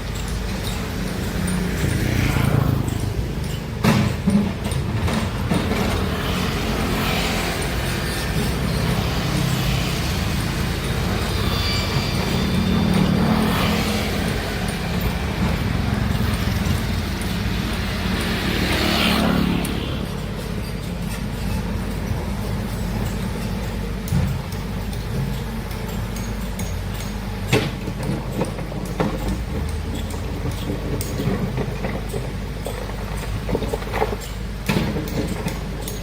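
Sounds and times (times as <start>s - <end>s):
excavator engine rumbling: 0.0s - 36.0s.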